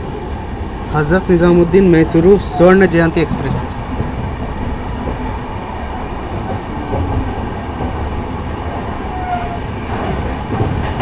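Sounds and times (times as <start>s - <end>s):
passing train: 0.0s - 11.0s
train wheels rumbling on rails: 0.0s - 11.0s.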